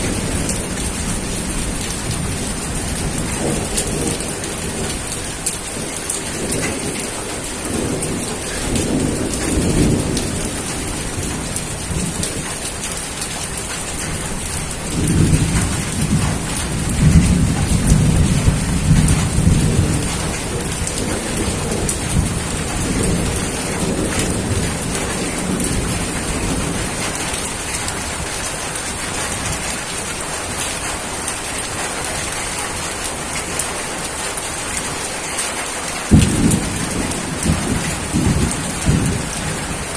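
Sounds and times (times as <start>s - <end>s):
rolling thunder rumbling: 0.0s - 33.4s, 36.0s - 39.9s
steady rain hissing: 0.0s - 39.9s.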